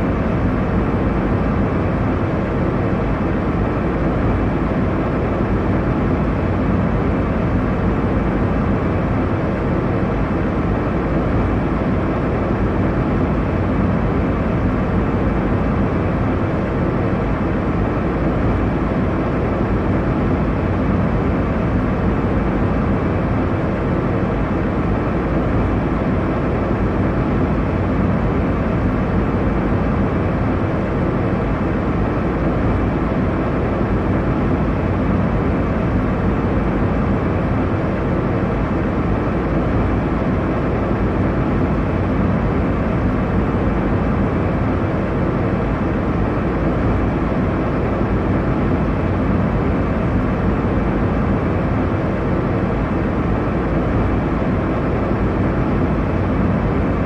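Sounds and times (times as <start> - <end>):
airliner cabin engine noise: 0.0 - 57.0.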